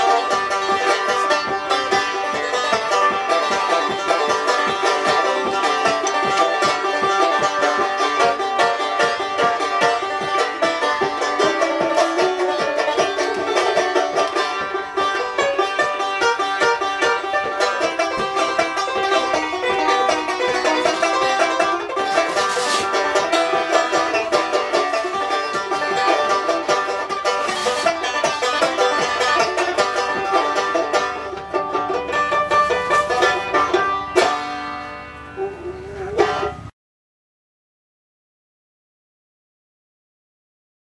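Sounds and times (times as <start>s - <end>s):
banjo picking a tune: 0.0s - 36.7s.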